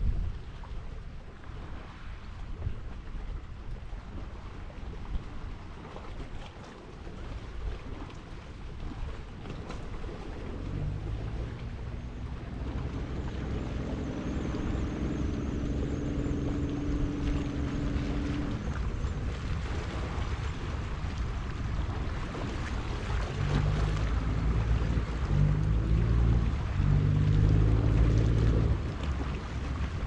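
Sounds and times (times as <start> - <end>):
wind rumbling on microphone: 0.0 - 30.0
boat engine droning: 0.4 - 30.0.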